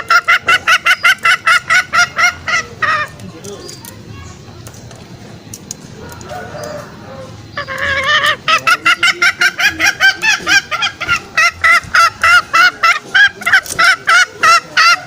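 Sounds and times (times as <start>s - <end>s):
junglefowl calling: 0.0s - 3.9s, 5.8s - 15.0s.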